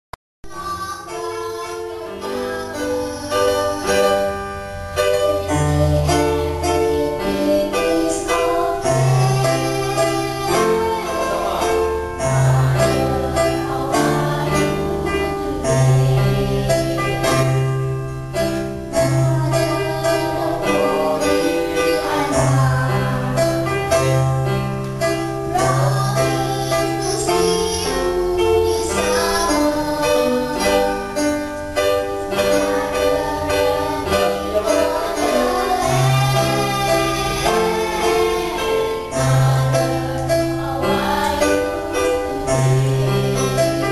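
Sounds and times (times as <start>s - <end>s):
instrumental accompaniment with bass: 0.4s - 43.9s
girls singing together: 0.5s - 43.9s.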